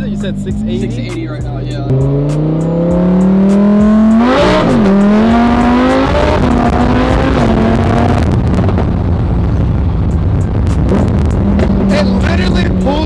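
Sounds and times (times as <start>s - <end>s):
car engine accelerating hard: 0.0s - 13.0s
road and wind rush: 0.0s - 13.0s.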